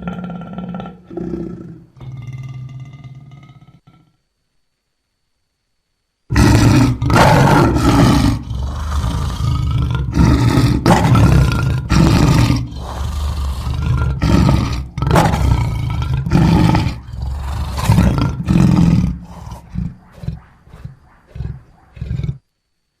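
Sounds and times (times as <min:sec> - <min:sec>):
lion roaring: 0:00.0 - 0:04.2, 0:06.3 - 0:22.5.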